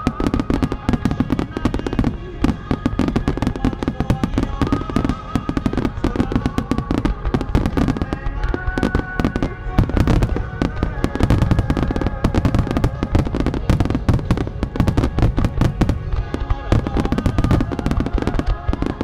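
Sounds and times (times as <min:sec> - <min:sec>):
fireworks bursting: 0:00.0 - 0:19.0
fireworks crackle: 0:00.0 - 0:19.0
music playing: 0:00.0 - 0:19.0.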